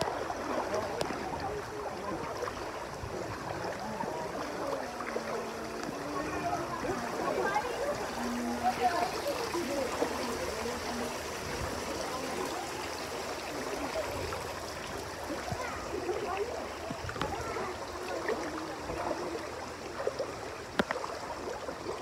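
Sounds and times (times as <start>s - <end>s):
faint voices: 0.0s - 22.0s
water swishing around waders: 0.0s - 22.0s.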